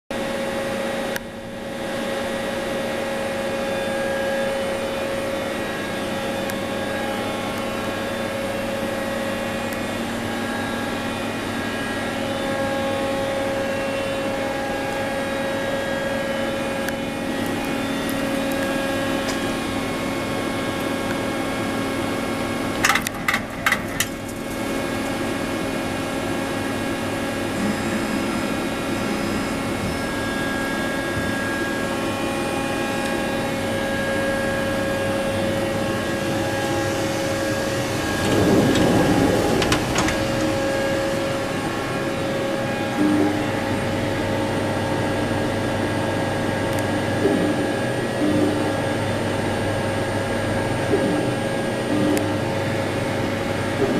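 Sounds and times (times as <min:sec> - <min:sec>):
lathe humming: 0:01.9 - 0:53.9.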